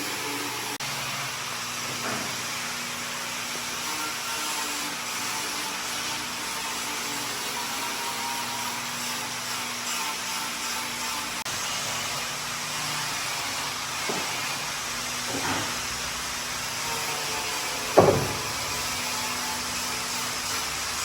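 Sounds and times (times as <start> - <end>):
power tool whirring: 0.0 - 21.0.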